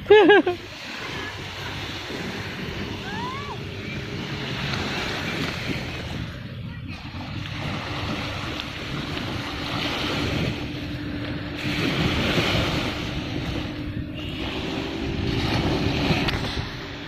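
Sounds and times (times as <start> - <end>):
sea surf washing onto beach: 0.0 - 17.0
wind rumbling on microphone: 0.0 - 17.0.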